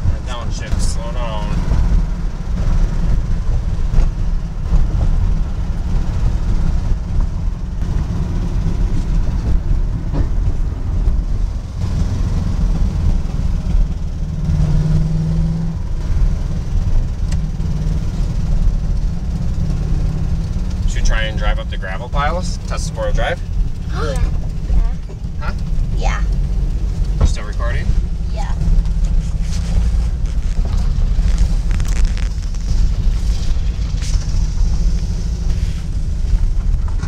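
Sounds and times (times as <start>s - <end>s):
wind noise: 0.0s - 20.8s, 27.8s - 37.0s
road noise: 0.0s - 37.0s
vehicle rumble: 0.0s - 37.0s.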